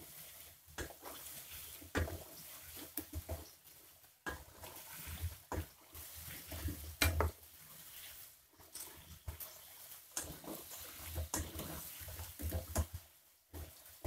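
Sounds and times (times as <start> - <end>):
oil sizzling: 0.0 - 14.0.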